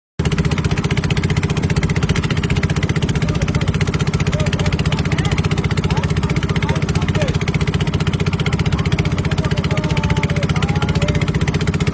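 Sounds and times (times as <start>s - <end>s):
small engine running: 0.2s - 11.9s.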